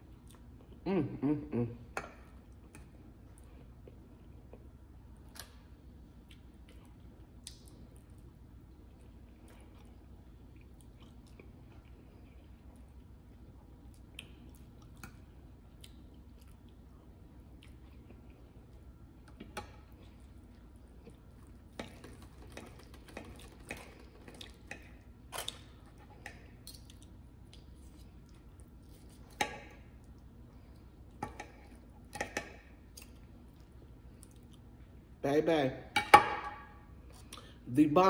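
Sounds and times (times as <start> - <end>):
person chewing food: 0.0 - 0.9, 1.9 - 35.1, 37.0 - 37.6.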